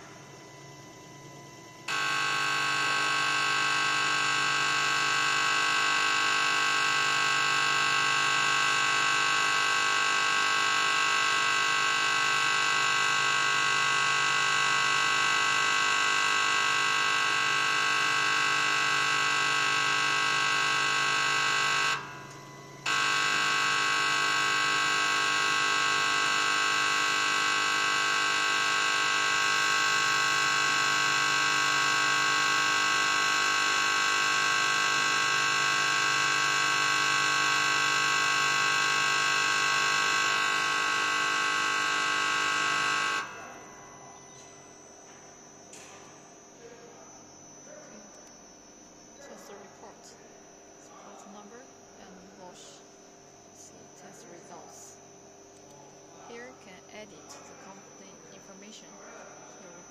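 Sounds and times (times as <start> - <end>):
injector test bench buzzing: 0.0 - 59.9.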